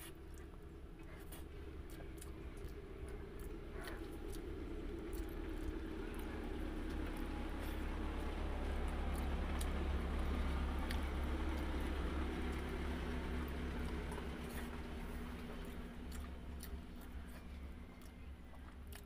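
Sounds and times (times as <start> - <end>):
steady low hum: 0.0 - 19.0
wet chewing: 0.0 - 19.0.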